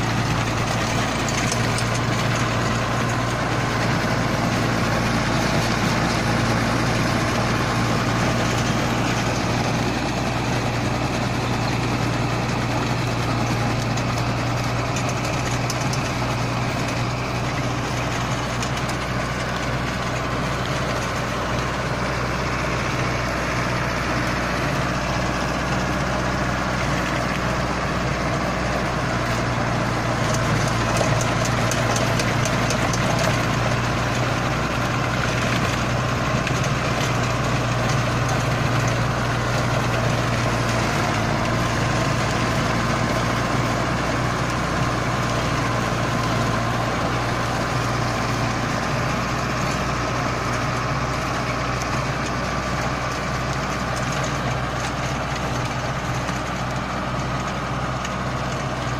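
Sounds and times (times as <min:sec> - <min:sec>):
diesel engine hum: 0:00.0 - 0:58.9
rotavator clattering: 0:00.0 - 0:58.9.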